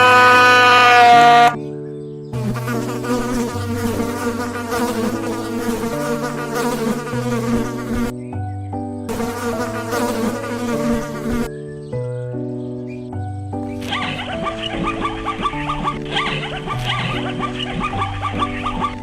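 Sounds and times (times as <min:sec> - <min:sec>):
bees buzzing: 0:00.0 - 0:01.6, 0:02.3 - 0:08.2, 0:09.1 - 0:11.6, 0:13.6 - 0:19.0.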